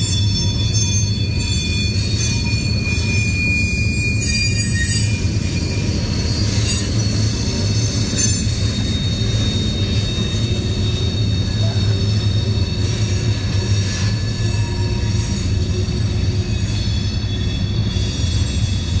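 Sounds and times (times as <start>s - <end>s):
high wheel squeal: 0.0s - 19.0s
steel wheels rumbling on rail: 0.0s - 19.0s.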